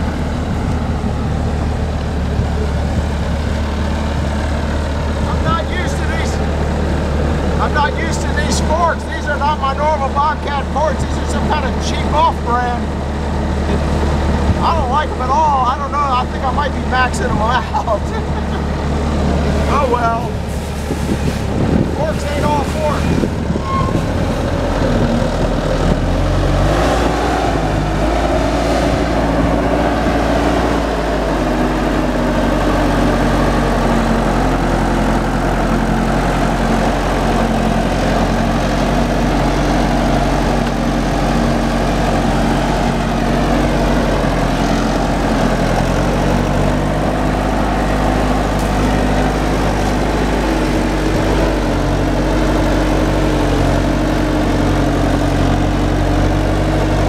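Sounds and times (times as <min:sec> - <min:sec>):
diesel loader engine running: 0:00.0 - 0:57.0.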